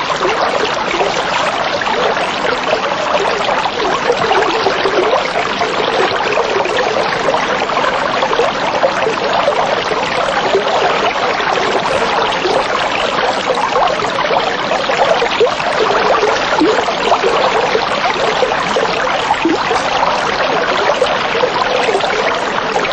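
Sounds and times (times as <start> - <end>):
water trickling and bubbling: 0.0 - 22.9.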